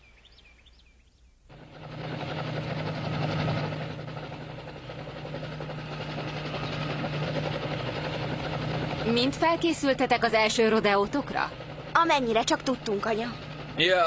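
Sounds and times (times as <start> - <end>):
cartoon helicopter whirring: 1.5 - 14.0.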